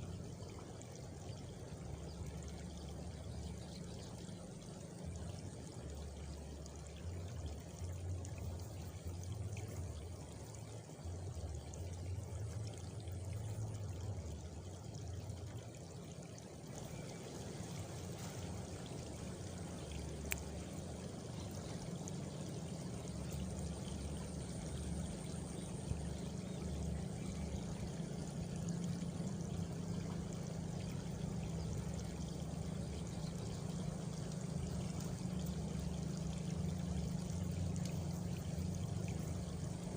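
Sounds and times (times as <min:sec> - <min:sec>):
low uneven rumble: 0:00.0 - 0:39.9
running water trickling: 0:00.0 - 0:39.9.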